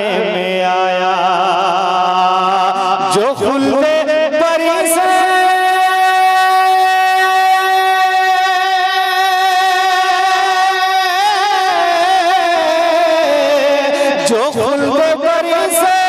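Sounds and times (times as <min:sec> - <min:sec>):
man singing: 0:00.0 - 0:16.0.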